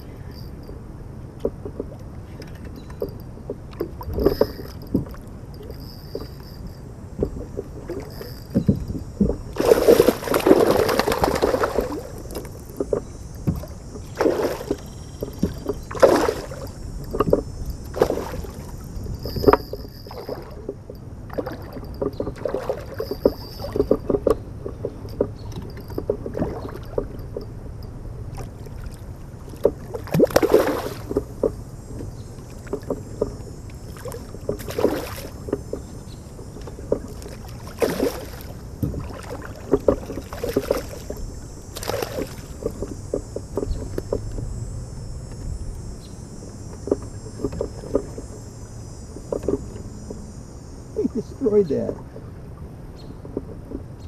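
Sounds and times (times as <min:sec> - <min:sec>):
insects chirping faintly: 0:00.0 - 0:54.0
water splashing around a kayak: 0:00.0 - 0:54.0.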